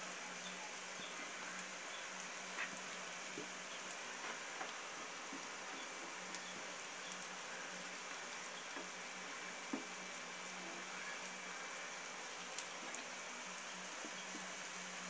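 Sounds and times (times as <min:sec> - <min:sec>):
steady low hum and hiss: 0:00.0 - 0:15.0.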